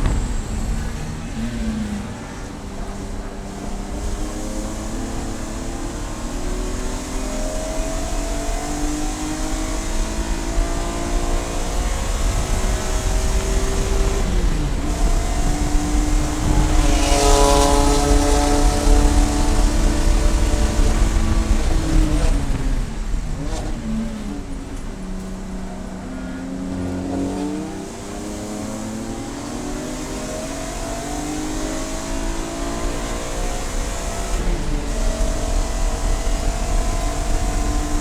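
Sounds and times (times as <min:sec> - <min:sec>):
gear change: 0:00.0 - 0:38.0
race car engine accelerating: 0:00.0 - 0:38.0
wind and road noise: 0:00.0 - 0:38.0.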